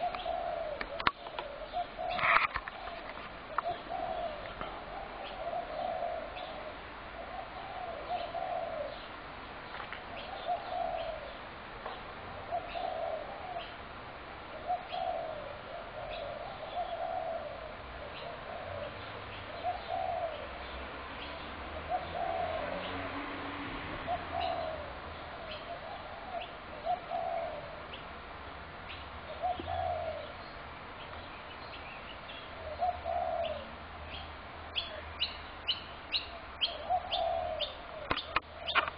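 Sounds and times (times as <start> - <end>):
doves cooing: 0.0 - 28.2, 29.2 - 30.6, 32.3 - 35.3, 36.1 - 38.9
small birds chirping: 0.0 - 38.9.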